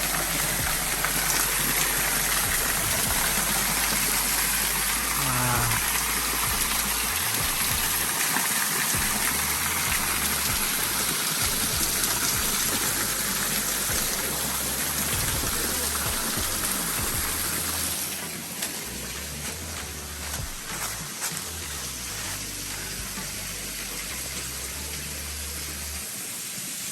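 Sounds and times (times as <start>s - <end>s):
falling water rushing: 0.0s - 26.9s.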